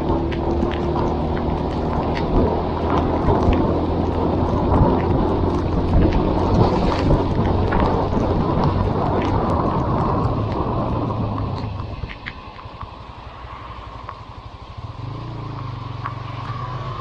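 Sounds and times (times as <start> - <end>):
heavy rain: 0.0 - 13.8
motorcycle engine running: 0.0 - 17.0
wind noise: 0.0 - 17.0.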